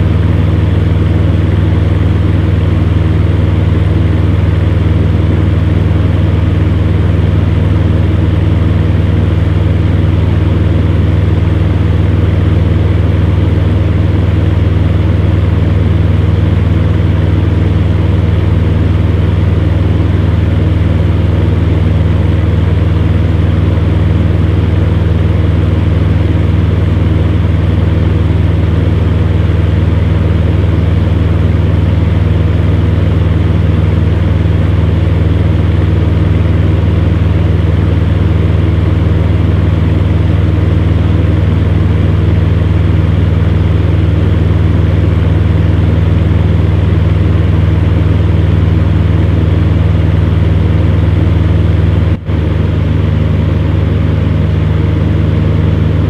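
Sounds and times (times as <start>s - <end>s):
fan heater humming: 0.0s - 56.0s.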